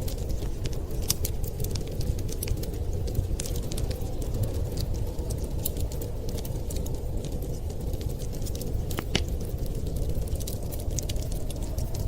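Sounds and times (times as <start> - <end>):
low rumble of wind: 0.0 - 12.0
wood fire crackling: 0.0 - 12.0.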